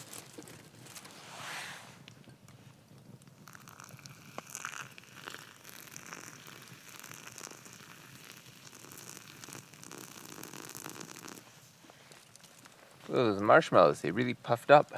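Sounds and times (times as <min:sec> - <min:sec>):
campfire crackling: 0:00.0 - 0:14.9
rain pattering on a tarp: 0:00.0 - 0:14.9.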